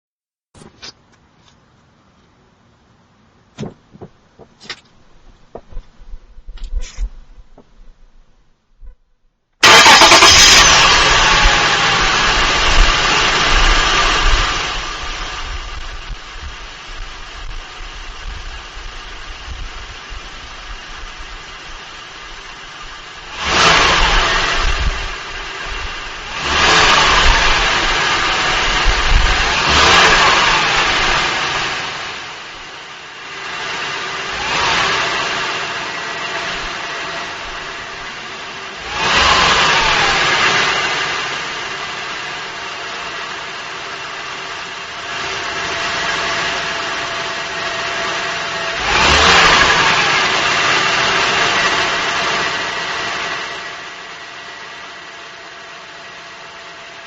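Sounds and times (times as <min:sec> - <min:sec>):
car engine idling and revving: 0:00.6 - 0:08.2, 0:09.6 - 0:57.0.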